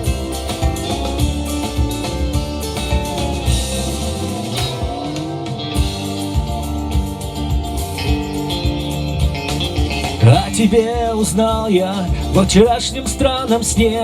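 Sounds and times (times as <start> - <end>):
bass guitar: 0.0 - 14.0
drum kit steady beat: 0.0 - 14.0
electric guitar playing: 0.0 - 14.0.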